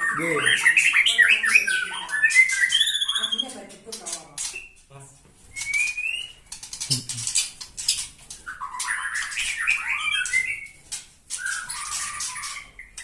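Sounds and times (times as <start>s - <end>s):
bird chirping and clicking: 0.0s - 4.9s, 5.5s - 13.0s
warbling birdsong: 0.0s - 13.0s.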